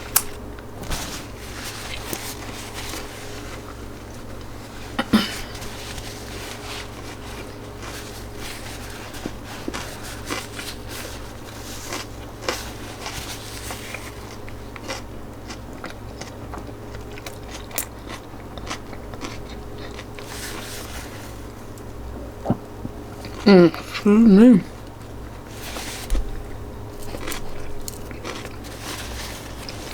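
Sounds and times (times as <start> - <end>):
steady low hum: 0.0 - 29.9
person chewing crunchy food: 5.0 - 24.1, 24.9 - 29.9.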